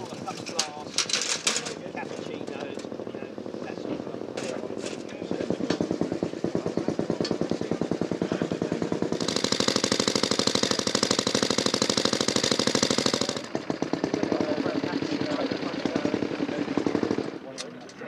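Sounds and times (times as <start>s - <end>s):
motorcycle engine idling: 1.6s - 17.8s.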